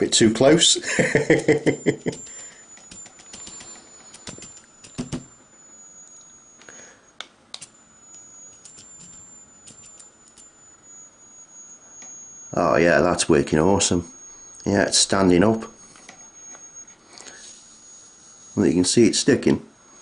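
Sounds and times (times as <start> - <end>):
thin high electrical whine: 0.0 - 20.0
sharp electric clicks and snaps: 1.3 - 19.1.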